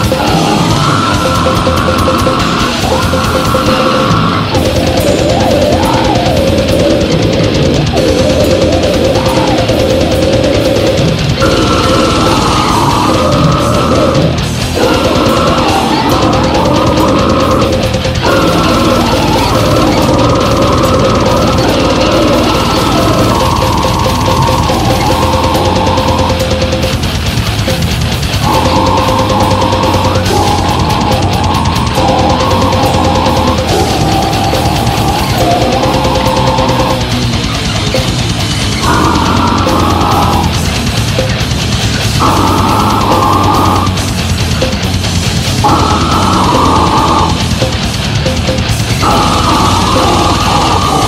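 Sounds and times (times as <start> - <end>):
death metal music: 0.0 - 51.0
distorted guitars: 0.0 - 51.0
fast drumming: 0.0 - 51.0.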